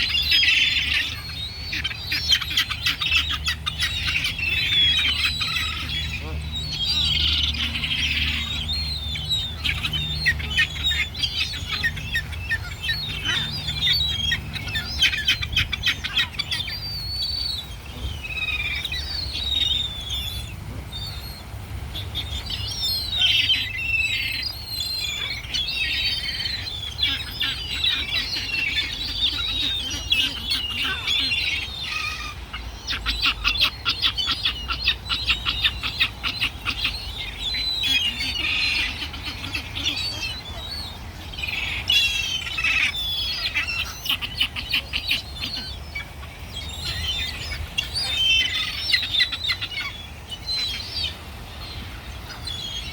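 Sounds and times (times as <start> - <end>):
birds chirping and twittering: 0.0 - 52.9.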